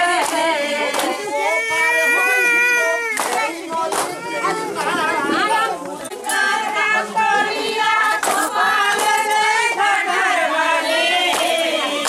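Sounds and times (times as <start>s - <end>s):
crowd chatter: 0.0s - 12.0s
women singing high-pitched: 0.0s - 12.0s.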